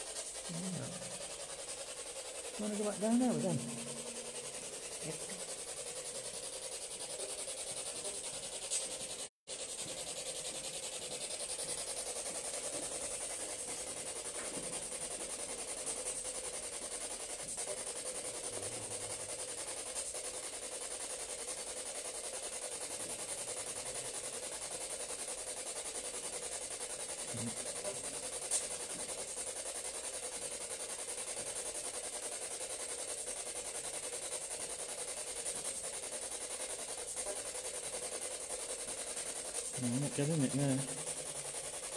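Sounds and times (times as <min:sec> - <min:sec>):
background hiss: 0:00.0 - 0:41.9.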